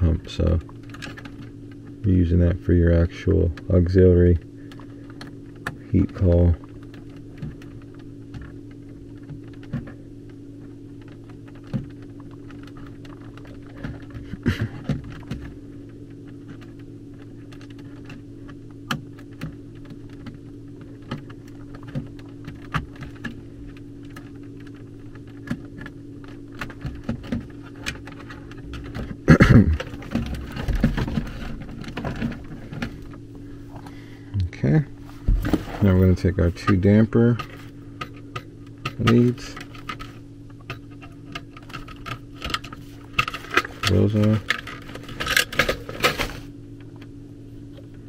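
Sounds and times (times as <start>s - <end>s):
rustling and handling of wires: 0.0s - 48.0s
steady low hum: 0.0s - 48.0s.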